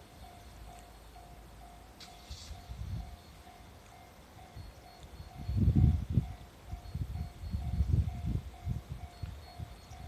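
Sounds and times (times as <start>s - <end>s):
freight train rumbling past: 0.0s - 10.0s
level-crossing warning bell ringing: 0.0s - 10.0s.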